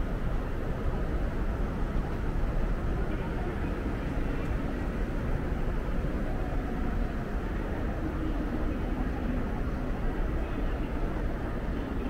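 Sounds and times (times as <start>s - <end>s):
low rumble of city ambience: 0.0s - 12.0s.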